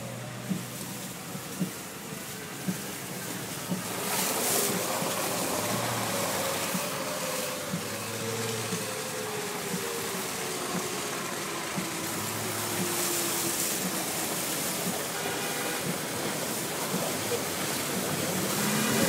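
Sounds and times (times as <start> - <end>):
car road and wind noise: 0.0 - 19.0.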